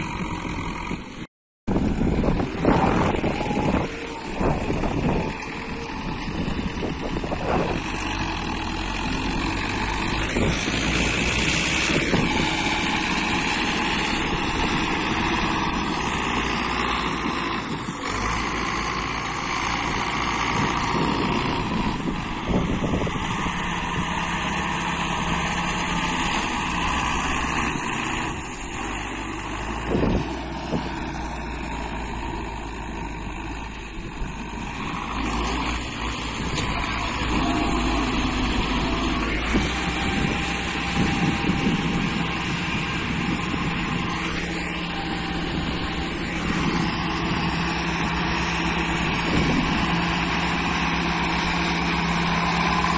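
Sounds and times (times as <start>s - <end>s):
tractor diesel engine under load: 0.0s - 52.9s
wheels churning through mud: 1.8s - 52.9s.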